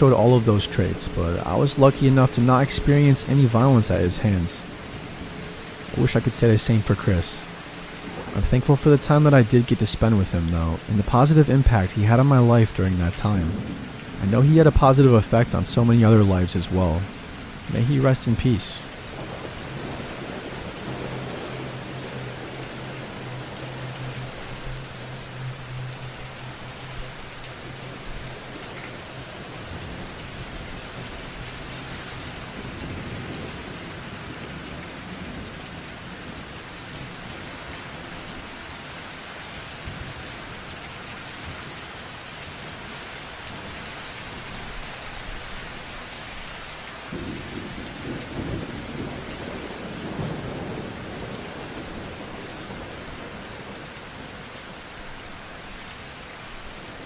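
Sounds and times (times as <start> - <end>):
thunder rumbling: 0.0 - 38.4, 47.1 - 56.0
heavy rain: 0.0 - 57.0.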